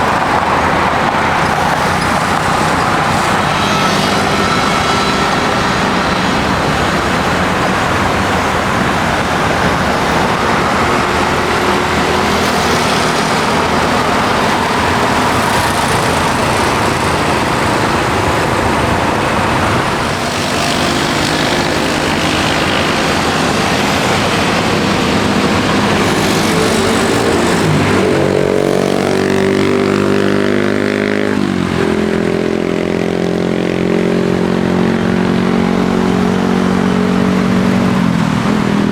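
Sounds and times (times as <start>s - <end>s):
engine passing by: 0.0s - 38.9s
steady vehicle noise: 0.0s - 38.9s.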